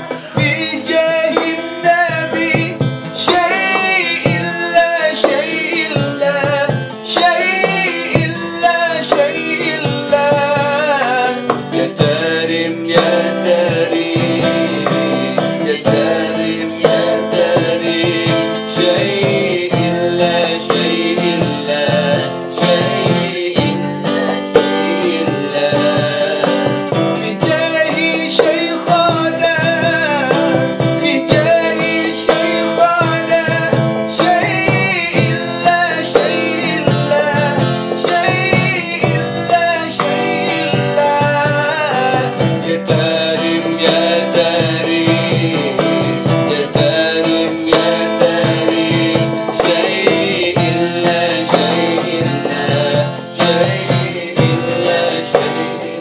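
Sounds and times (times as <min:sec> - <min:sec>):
acoustic guitar strumming: 0:00.0 - 0:56.0
hand drum beating: 0:00.0 - 0:56.0
person singing: 0:00.0 - 0:56.0.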